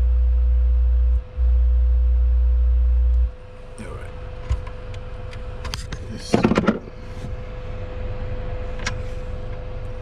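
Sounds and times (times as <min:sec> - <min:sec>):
faint constant tone: 0:00.0 - 0:10.0
low hum: 0:00.0 - 0:10.0.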